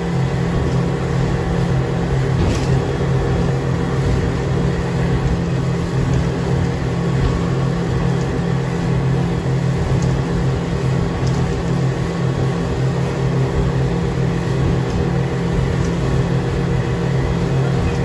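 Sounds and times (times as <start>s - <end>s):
outboard motors humming: 0.0s - 18.0s
water spray from hull: 0.0s - 18.0s.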